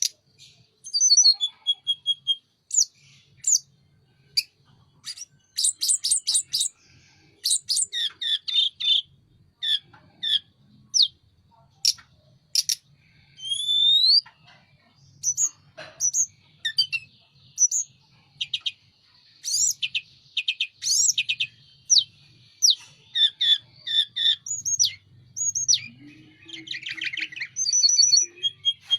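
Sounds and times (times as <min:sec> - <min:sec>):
songbird chirping and whistling: 0:00.0 - 0:14.5, 0:15.1 - 0:28.9.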